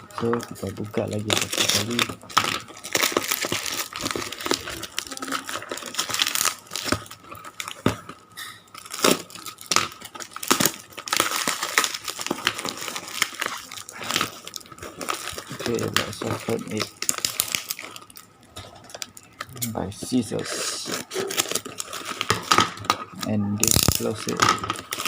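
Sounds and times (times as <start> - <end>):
packaging crumpled and torn: 0.0 - 25.0.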